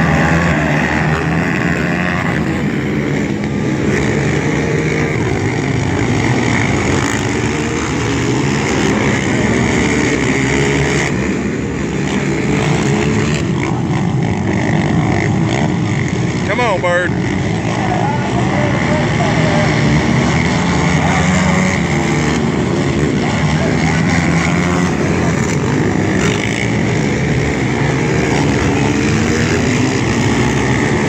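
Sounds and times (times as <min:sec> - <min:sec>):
atv engines revving: 0:00.0 - 0:31.0.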